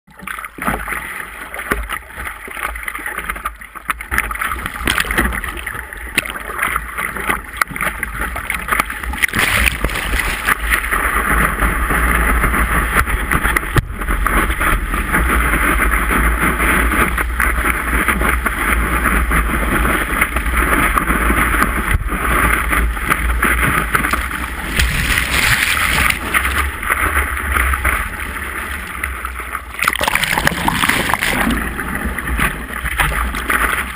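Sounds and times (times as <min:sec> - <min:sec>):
water lapping: 0:00.1 - 0:33.9
water rushing along surfboard: 0:00.1 - 0:33.9.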